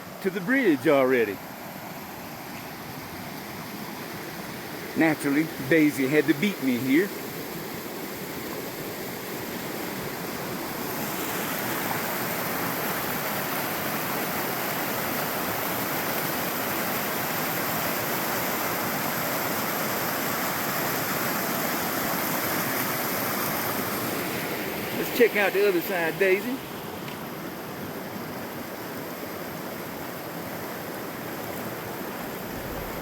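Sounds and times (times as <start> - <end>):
mountain creek rushing: 0.0 - 33.0.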